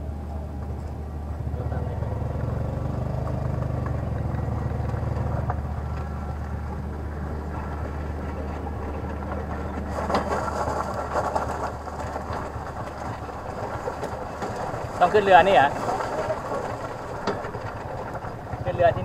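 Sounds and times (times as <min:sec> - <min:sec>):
motorcycle engine running: 0:00.0 - 0:19.0
clatter and rustle: 0:00.5 - 0:19.0.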